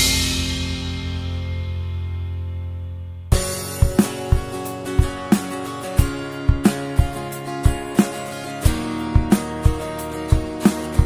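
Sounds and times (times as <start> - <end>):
steady drum beat: 0.0 - 1.4, 3.3 - 11.0
strummed guitar: 0.0 - 11.0.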